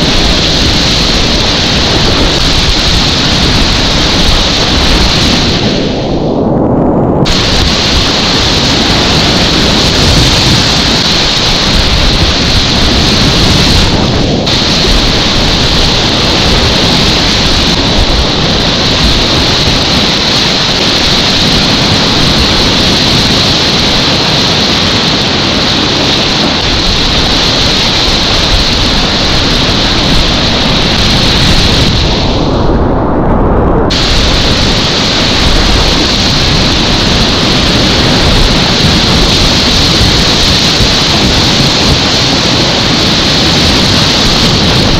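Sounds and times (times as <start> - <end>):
whitewater rapids rushing: 0.0 - 6.0, 7.3 - 32.4, 33.9 - 44.9.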